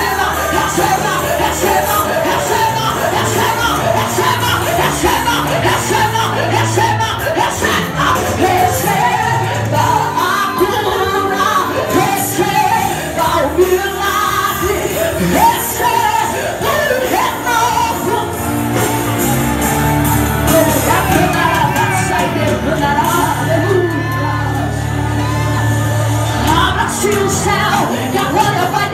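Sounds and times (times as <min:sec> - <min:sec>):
woman singing through a microphone: 0:00.0 - 0:19.2, 0:20.3 - 0:28.9
congregation shouting: 0:00.0 - 0:28.9
loud amplified backing music: 0:00.0 - 0:28.9.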